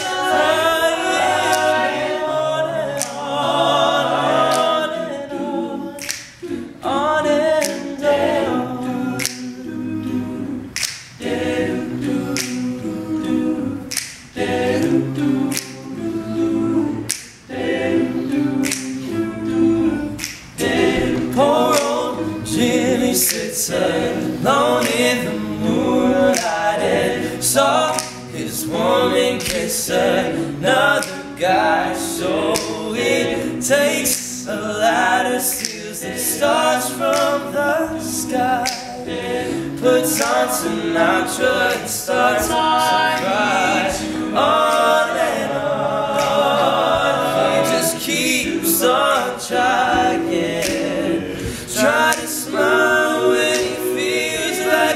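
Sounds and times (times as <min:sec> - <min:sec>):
clicking beat: 0:00.0 - 0:54.9
male group singing in harmony: 0:00.0 - 0:54.9.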